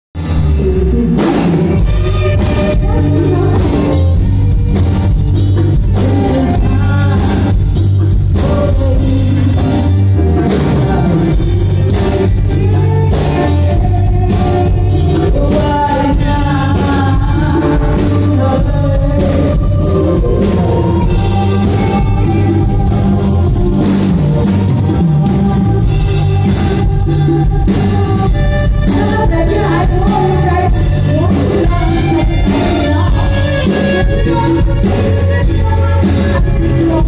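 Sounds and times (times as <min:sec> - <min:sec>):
heavy bass line: 0:00.2 - 0:37.0
live band playing amplified music: 0:00.2 - 0:37.0
person singing: 0:00.2 - 0:37.0
steady drum beat: 0:01.0 - 0:37.0.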